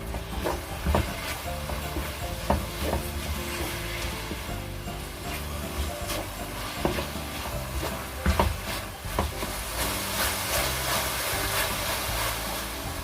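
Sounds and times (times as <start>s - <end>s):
background music: 0.0s - 13.0s
food sizzling in a pan: 0.0s - 13.0s
utensil clacking against pan: 0.0s - 13.0s.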